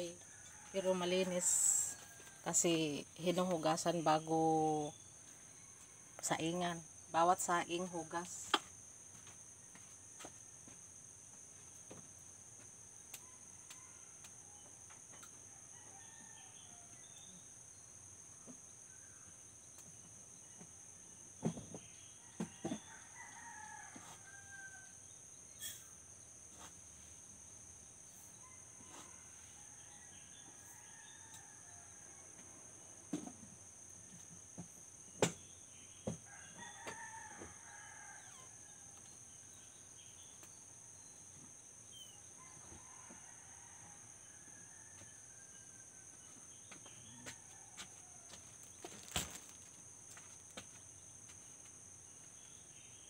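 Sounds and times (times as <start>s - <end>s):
crickets chorus: 0.0s - 53.0s.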